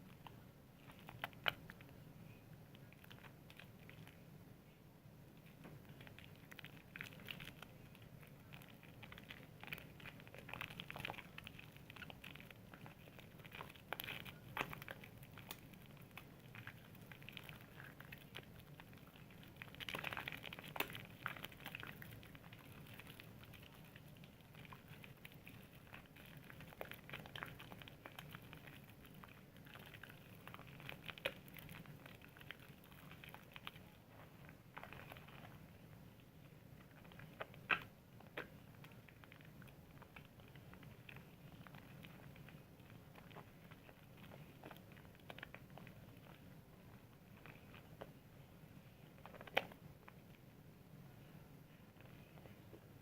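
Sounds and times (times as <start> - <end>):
wet squishing of soap lather: 0.0 - 2.0, 5.4 - 48.2.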